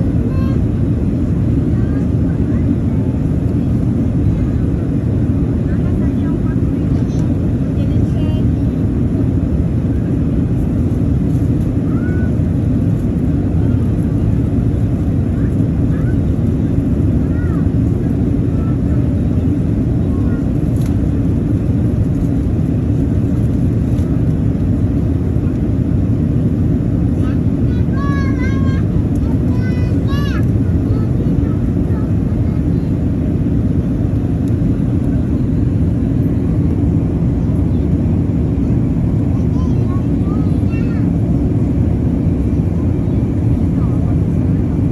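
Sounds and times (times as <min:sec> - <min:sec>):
aircraft cabin rumble: 0:00.0 - 0:44.9
faint voices: 0:00.2 - 0:08.8, 0:09.8 - 0:24.3, 0:26.8 - 0:44.9.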